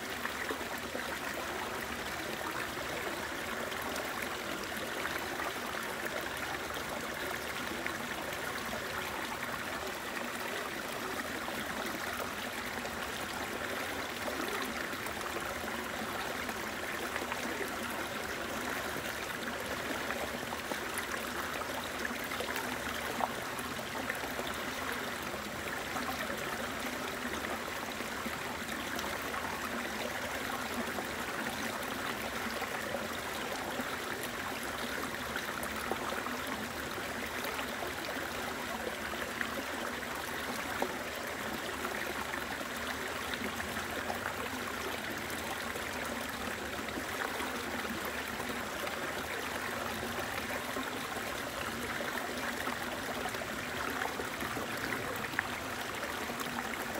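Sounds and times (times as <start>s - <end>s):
rocky stream flowing: 0.0s - 56.9s.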